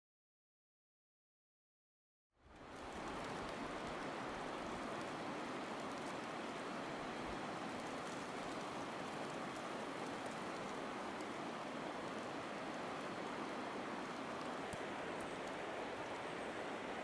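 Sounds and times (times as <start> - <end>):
snowstorm hiss: 2.4 - 17.0.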